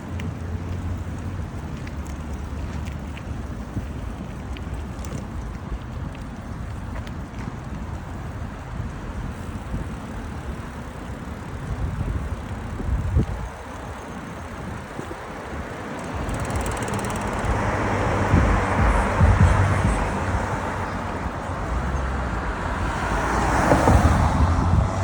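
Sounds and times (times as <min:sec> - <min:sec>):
road traffic noise: 0:00.0 - 0:25.0
wind buffeting microphone: 0:00.0 - 0:25.0.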